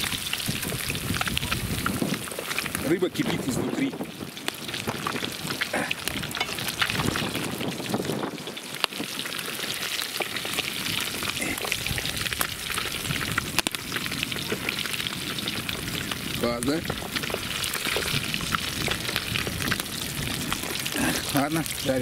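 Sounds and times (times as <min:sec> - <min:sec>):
fish deep-frying in oil: 0:00.0 - 0:22.0.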